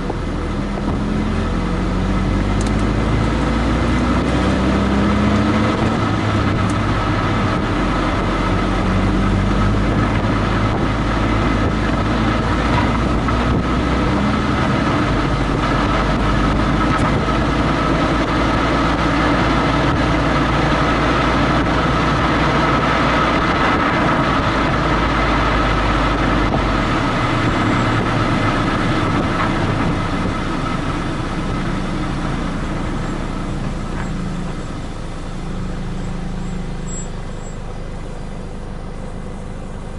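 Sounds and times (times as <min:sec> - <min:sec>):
car engine: 0:00.0 - 0:39.9
tyre and road noise: 0:00.0 - 0:39.9.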